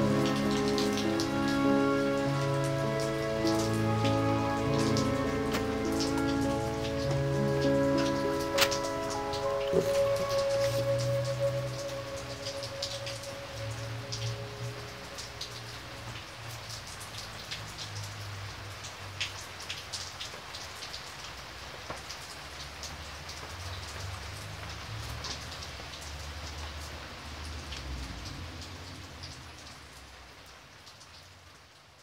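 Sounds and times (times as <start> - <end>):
raindrops close by: 0.0 - 32.0
steady rain falling: 0.0 - 32.0.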